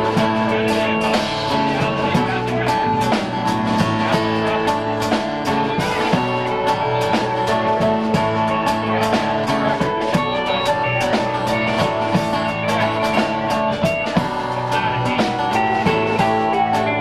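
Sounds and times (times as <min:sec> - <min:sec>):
drum beat: 0:00.0 - 0:17.0
electric and acoustic guitars: 0:00.0 - 0:17.0.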